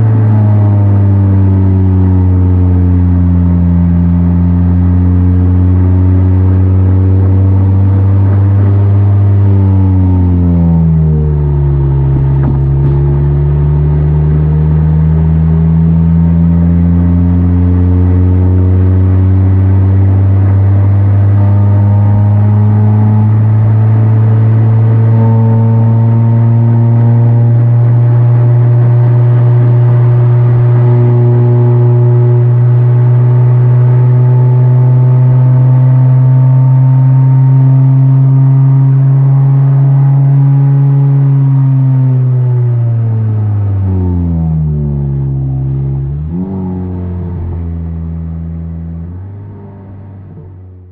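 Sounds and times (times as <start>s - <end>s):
car engine droning under load: 0.0s - 50.9s.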